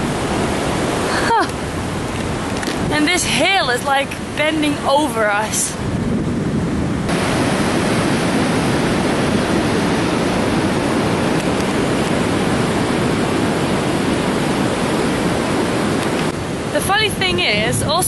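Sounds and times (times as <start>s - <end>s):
surf rushing on beach: 0.0s - 18.0s.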